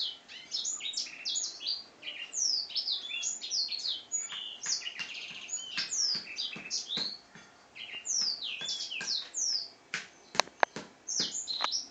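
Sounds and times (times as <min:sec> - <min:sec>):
canary singing warble: 0:00.0 - 0:11.9.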